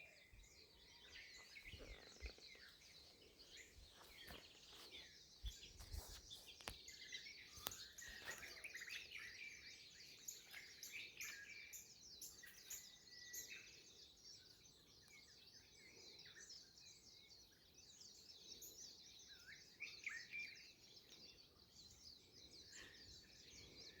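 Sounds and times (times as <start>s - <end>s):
small birds chirping and trilling: 0.0s - 24.0s.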